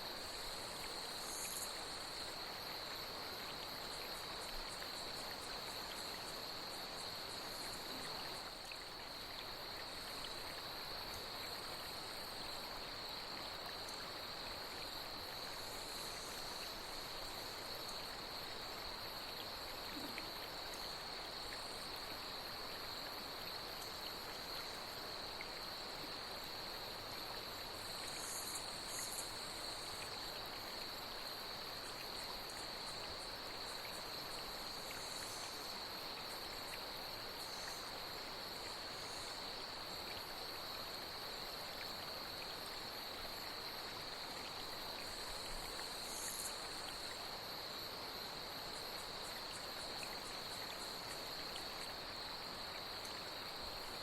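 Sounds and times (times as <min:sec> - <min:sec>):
flowing water: 0:00.0 - 0:54.0
night insects chirring: 0:00.0 - 0:54.0.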